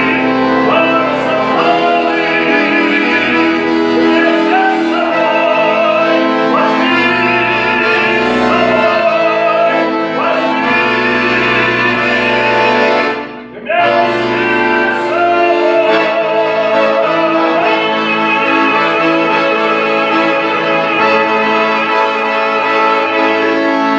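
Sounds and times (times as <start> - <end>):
instrumental accompaniment: 0.0 - 23.9.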